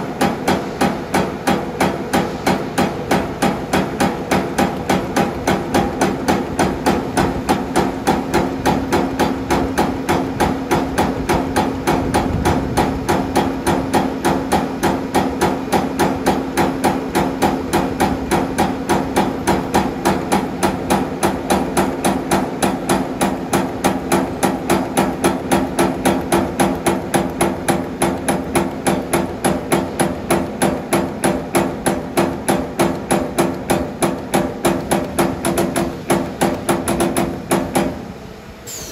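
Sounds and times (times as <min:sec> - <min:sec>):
metallic punch strokes: 0:00.0 - 0:38.9
steady machine hum: 0:00.0 - 0:38.9.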